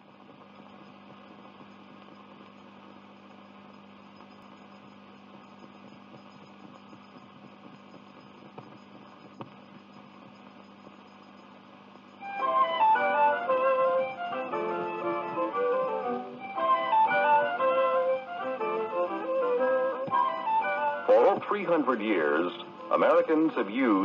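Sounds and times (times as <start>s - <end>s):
film projector hum and hiss: 0.0s - 24.0s.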